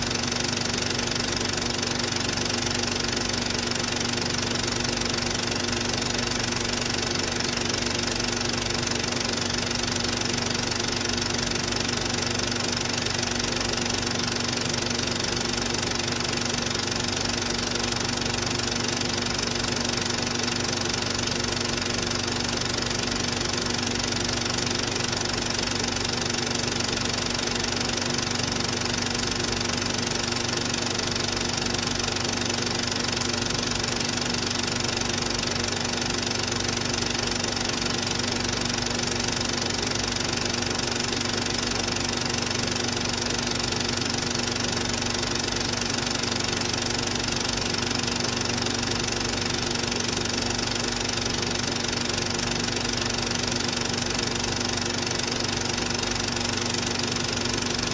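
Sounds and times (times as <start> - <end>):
film projector rattling: 0.0 - 57.9
projector hum: 0.0 - 57.9.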